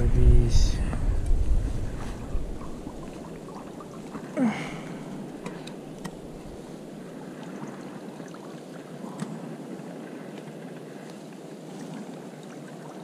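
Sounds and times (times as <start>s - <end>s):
lake water: 0.0s - 13.0s
wind: 0.0s - 13.0s.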